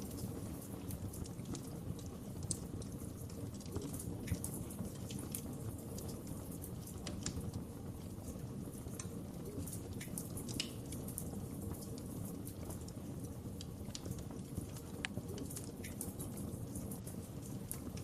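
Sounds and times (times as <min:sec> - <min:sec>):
fire crackling and popping: 0:00.0 - 0:18.0
low rumble of burning fire: 0:00.0 - 0:18.0.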